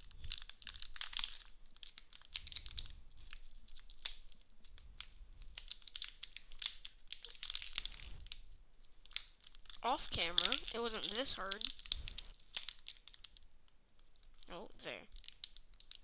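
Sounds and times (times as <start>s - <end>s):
foil wrapper crinkling: 0.0s - 14.5s, 15.2s - 16.0s.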